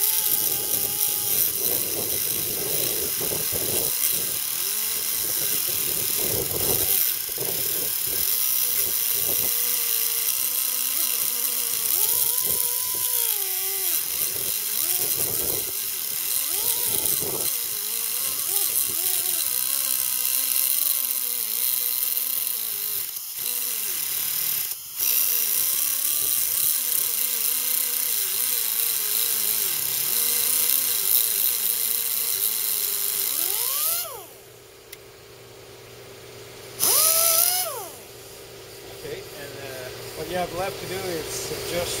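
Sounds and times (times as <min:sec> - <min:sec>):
cut-off wheel grinding metal: 0:00.0 - 0:35.0, 0:36.8 - 0:38.1.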